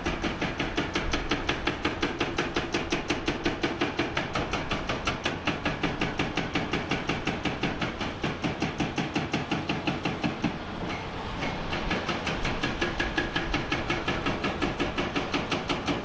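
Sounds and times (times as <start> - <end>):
hydraulic breaker hammer pounding rock: 0.0 - 16.0.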